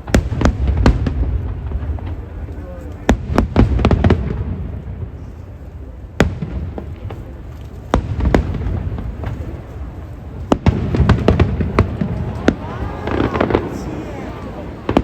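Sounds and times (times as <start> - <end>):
fireworks bangs: 0.0 - 15.0
low rumble of fireworks: 0.0 - 15.0.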